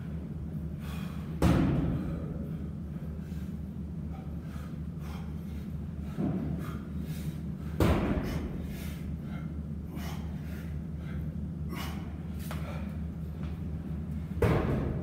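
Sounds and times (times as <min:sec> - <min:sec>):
steady low hum: 0:00.0 - 0:15.0
person breathing hard: 0:00.6 - 0:13.6.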